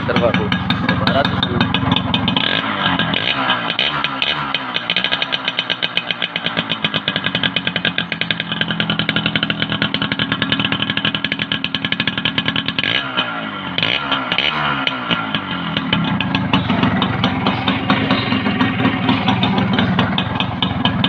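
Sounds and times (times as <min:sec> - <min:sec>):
two-stroke motorcycle engine idling: 0:00.0 - 0:21.0.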